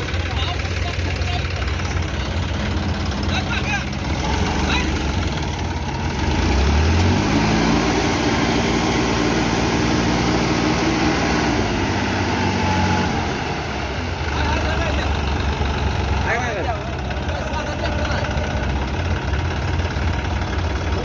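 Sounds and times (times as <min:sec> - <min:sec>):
tractor diesel engine: 0:00.0 - 0:21.0.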